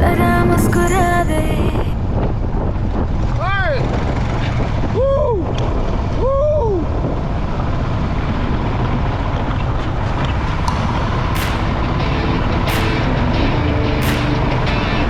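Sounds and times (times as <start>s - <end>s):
motorcycle ride rumble: 0.0s - 15.0s.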